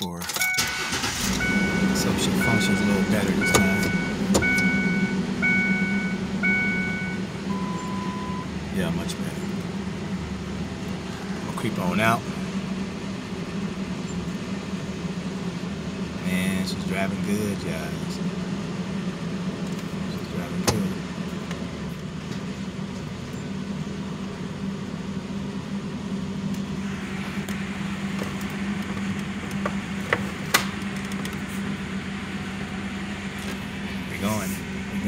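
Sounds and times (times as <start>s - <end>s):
car engine humming: 0.0s - 35.0s.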